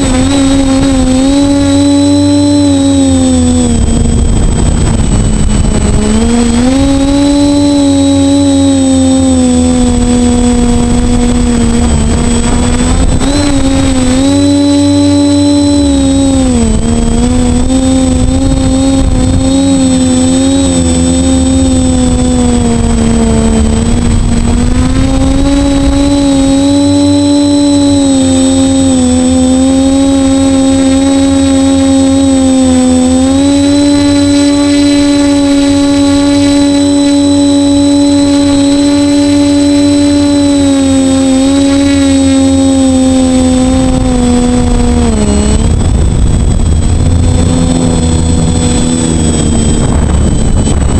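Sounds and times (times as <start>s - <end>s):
drone motors buzzing: 0.0s - 50.9s.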